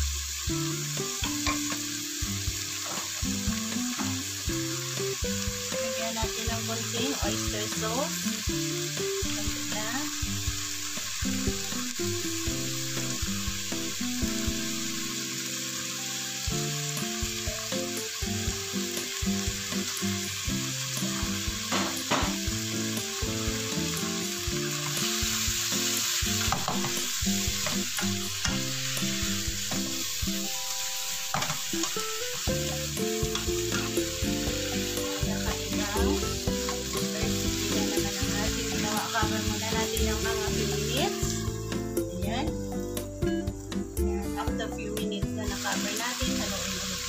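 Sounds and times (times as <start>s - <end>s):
food sizzling in a frying pan: 0.0s - 47.0s.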